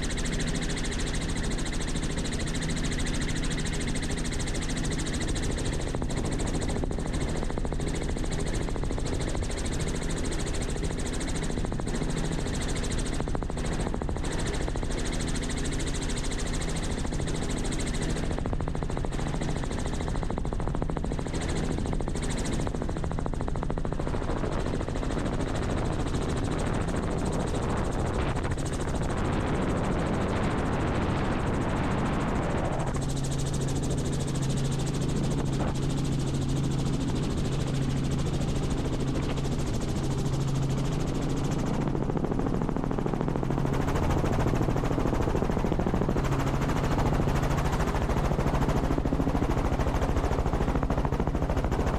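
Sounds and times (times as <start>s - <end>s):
helicopter rotor and engine: 0.0s - 51.9s
steady low hum: 0.0s - 51.9s.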